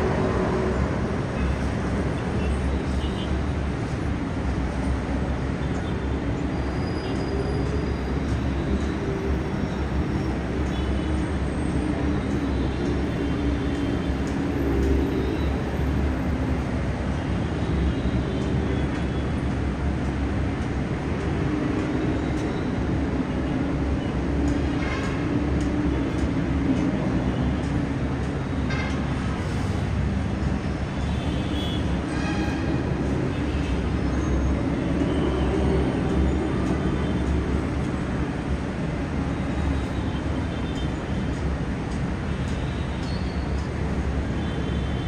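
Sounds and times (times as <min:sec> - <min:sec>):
city traffic rumble: 0:00.0 - 0:45.0.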